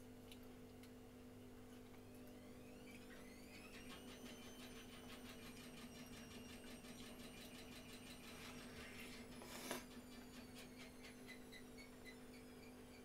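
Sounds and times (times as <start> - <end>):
faint high whine: 1.4 - 13.0.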